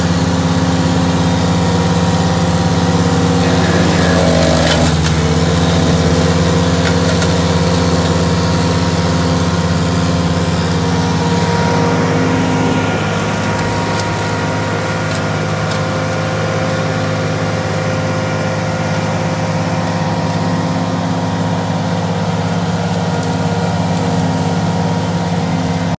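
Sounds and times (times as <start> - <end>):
flail mower engine running: 0.0 - 26.0.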